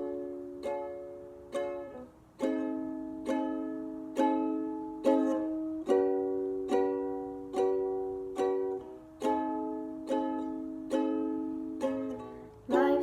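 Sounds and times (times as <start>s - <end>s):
ukulele chords strummed: 0.0s - 13.0s.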